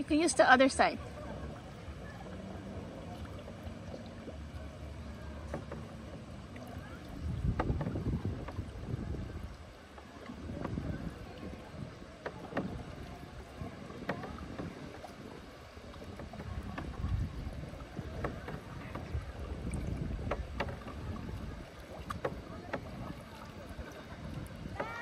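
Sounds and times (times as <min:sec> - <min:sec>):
paddle dipping through water: 0:00.0 - 0:25.0
small splashes and drips: 0:01.0 - 0:25.0
wind rumble on microphone: 0:01.1 - 0:25.0.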